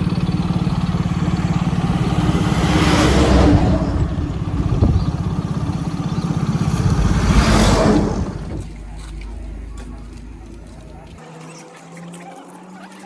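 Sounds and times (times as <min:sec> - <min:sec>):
diesel engine throbbing and revving: 0:00.0 - 0:11.2.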